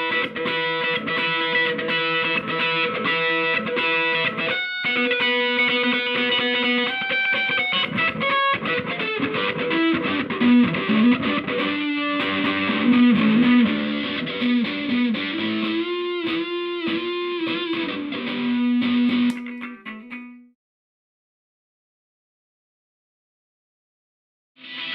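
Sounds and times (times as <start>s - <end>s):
distorted electric guitar: 0.0s - 20.5s, 24.6s - 24.9s.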